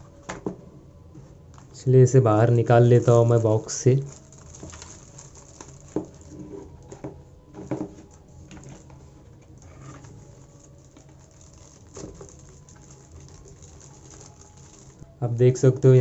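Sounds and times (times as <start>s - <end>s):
packaging knocks and rustles: 3.0s - 15.9s.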